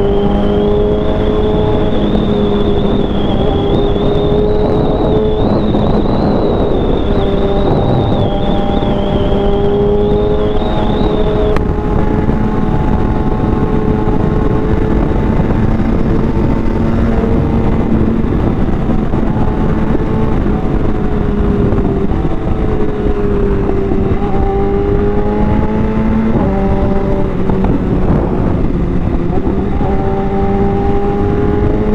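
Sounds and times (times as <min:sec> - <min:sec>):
motorcycle engine cruising: 0:00.0 - 0:31.9
wind rushing around helmet: 0:00.0 - 0:31.9.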